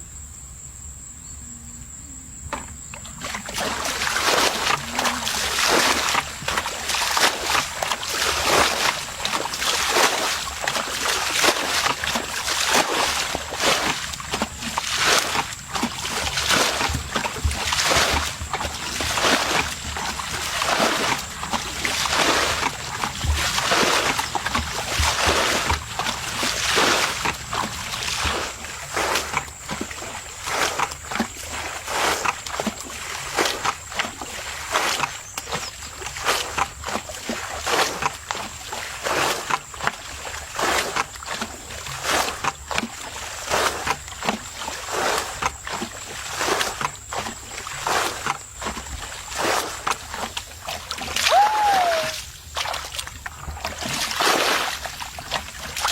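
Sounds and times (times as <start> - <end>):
water splashing and sloshing: 2.4 - 55.9.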